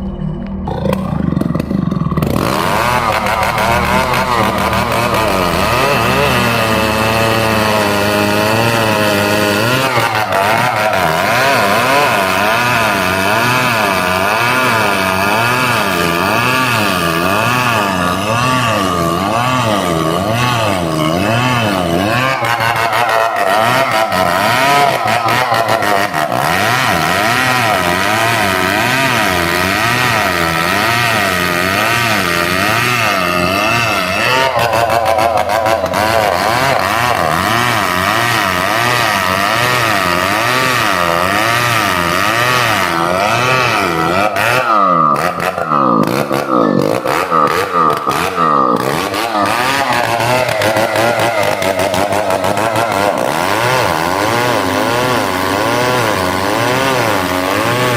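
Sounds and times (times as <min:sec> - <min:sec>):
chainsaw cutting wood: 0:01.3 - 0:57.9.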